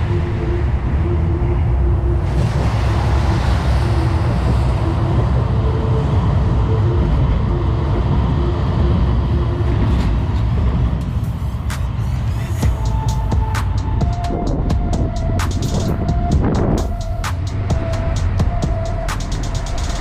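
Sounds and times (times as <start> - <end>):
city road traffic: 0.0 - 20.0.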